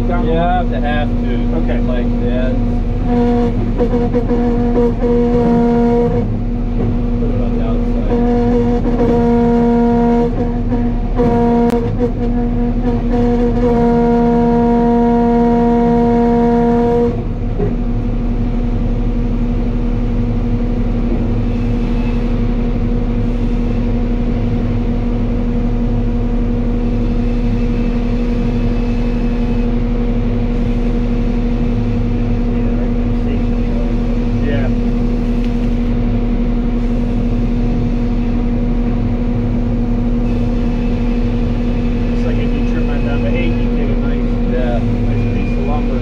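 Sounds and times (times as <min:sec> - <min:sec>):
low rumble: 0:00.0 - 0:46.0
sawmill saw drone: 0:00.0 - 0:46.0.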